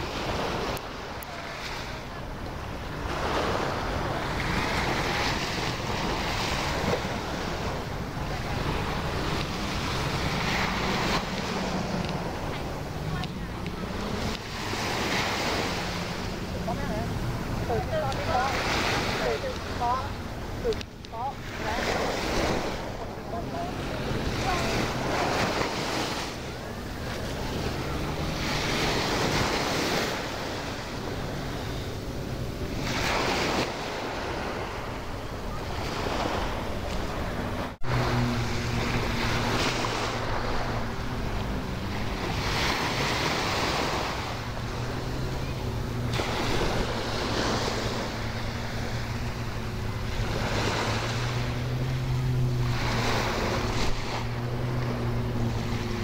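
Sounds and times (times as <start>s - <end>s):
low engine hum: 0.0s - 56.0s
waves breaking on sandy beach: 0.0s - 56.0s.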